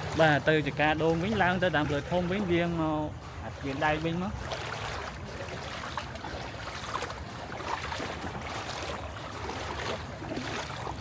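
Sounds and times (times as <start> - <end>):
floodwater sloshing and splashing: 0.0 - 11.0.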